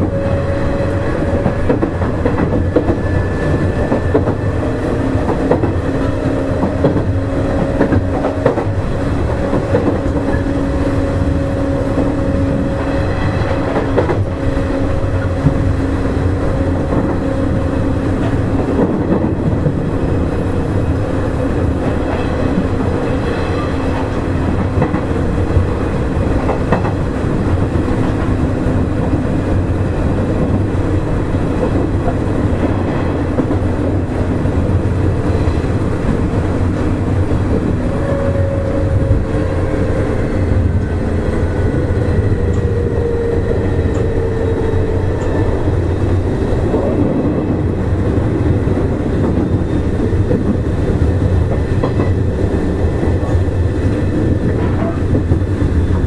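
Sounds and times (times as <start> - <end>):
rail joints clickety-clack: 0.0 - 56.0
train wheels rumbling on rails: 0.0 - 56.0.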